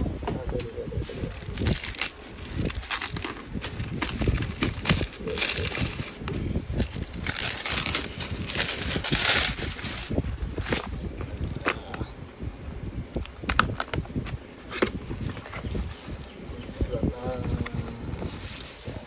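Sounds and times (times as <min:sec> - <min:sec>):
crinkling handling noise: 0:00.4 - 0:19.0.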